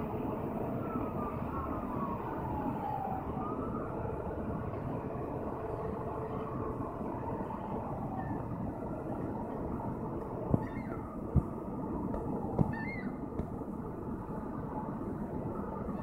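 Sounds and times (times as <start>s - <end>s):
faint falling whine: 0.0s - 16.0s.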